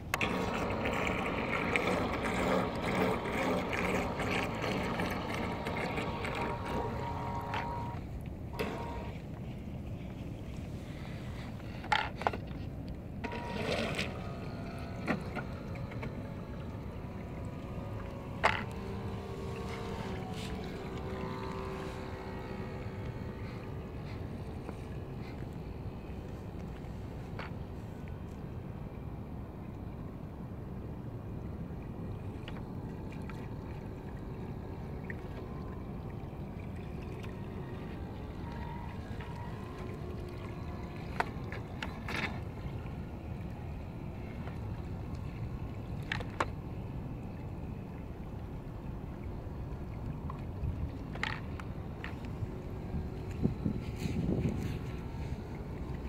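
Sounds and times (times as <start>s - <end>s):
water lapping against shore: 0.0s - 56.0s
wind rumble on microphone: 0.0s - 56.0s.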